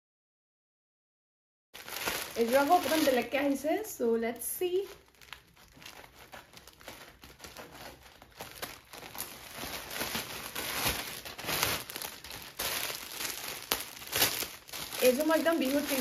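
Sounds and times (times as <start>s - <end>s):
plastic packaging crinkling: 1.8s - 16.0s.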